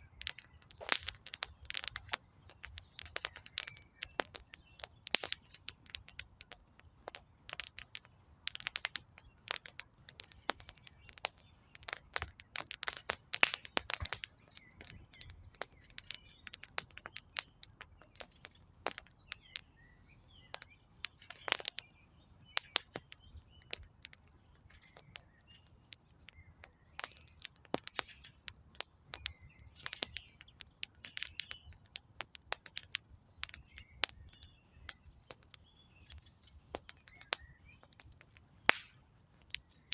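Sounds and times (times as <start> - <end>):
birds chirping faintly: 0.0 - 39.9
wood fire crackling: 0.0 - 39.9.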